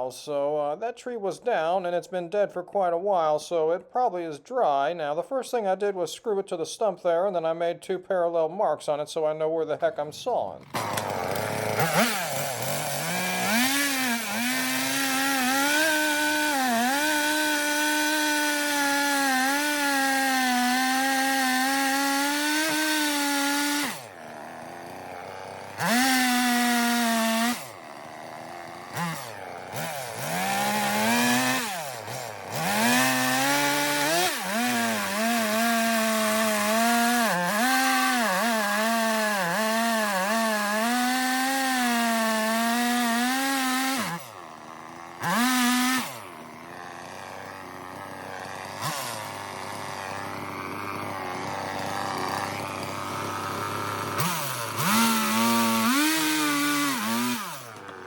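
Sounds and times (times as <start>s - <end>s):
chainsaw cutting log: 9.9s - 58.0s.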